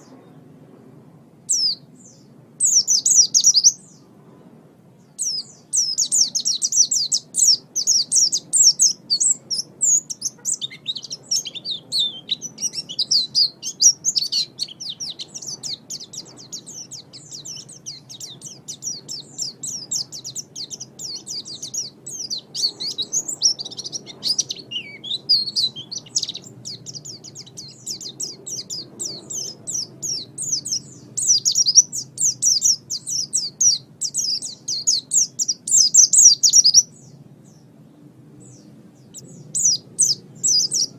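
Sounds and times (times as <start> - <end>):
bird twittering song: 1.5 - 40.9.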